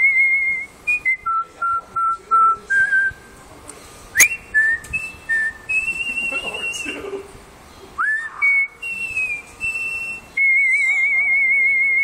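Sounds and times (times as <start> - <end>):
man whistling a tune: 0.0 - 3.3, 4.2 - 7.1, 8.0 - 12.0.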